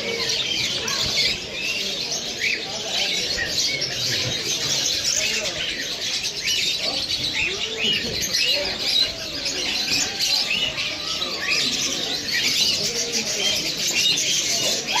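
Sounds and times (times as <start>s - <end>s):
birds chirping chorus: 0.0s - 15.0s.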